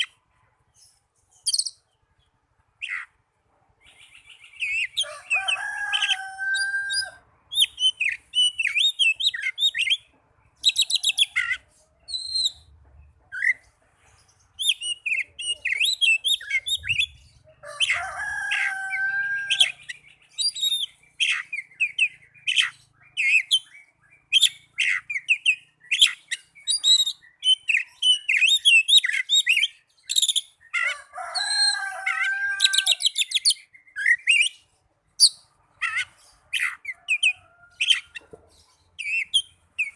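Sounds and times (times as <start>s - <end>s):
bird singing chirps and trills: 0.0s - 3.2s, 3.8s - 39.9s.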